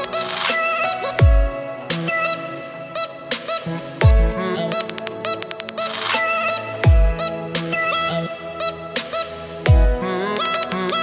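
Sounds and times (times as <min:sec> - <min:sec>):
electronic music with synth tones: 0:00.0 - 0:11.0.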